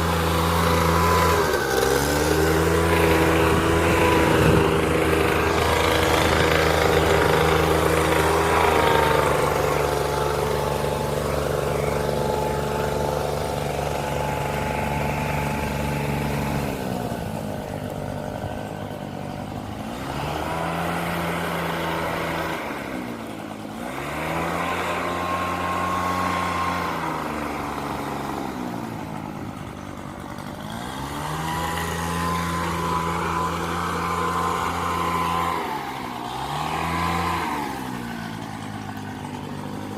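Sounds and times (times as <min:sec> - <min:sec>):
leaf blower engine revving: 0:00.0 - 0:39.9.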